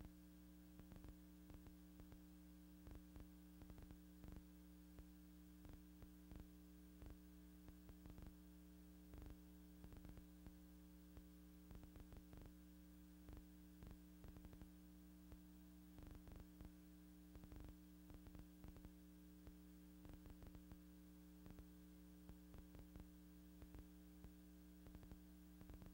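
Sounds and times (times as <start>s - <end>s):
faint electrical hum: 0.0s - 25.9s.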